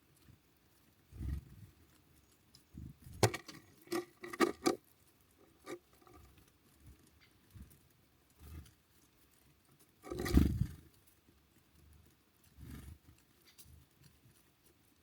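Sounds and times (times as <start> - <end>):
birds pecking on a feeder: 0.0 - 15.0.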